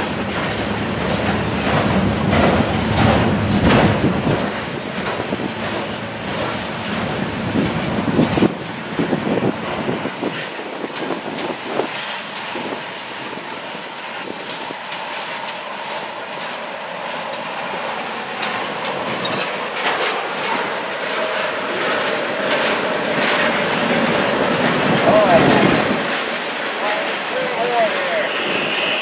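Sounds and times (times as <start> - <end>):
freight train rumbling: 0.0 - 29.0
wheels clicking over rail joints: 0.0 - 29.0.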